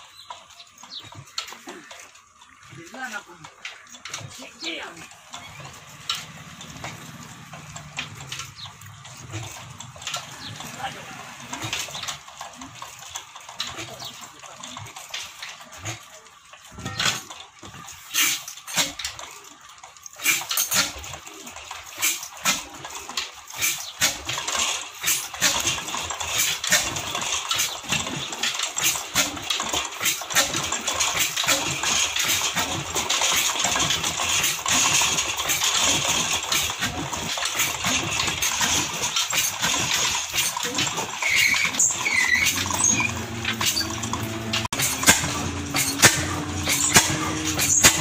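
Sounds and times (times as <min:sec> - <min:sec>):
diesel engine starting up: 0:04.1 - 0:16.0, 0:20.2 - 0:48.0.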